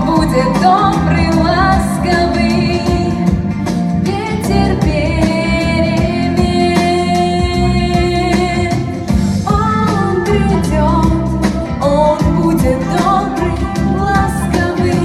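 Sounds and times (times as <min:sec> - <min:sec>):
instrumental accompaniment: 0:00.0 - 0:15.0
person singing: 0:00.0 - 0:15.0.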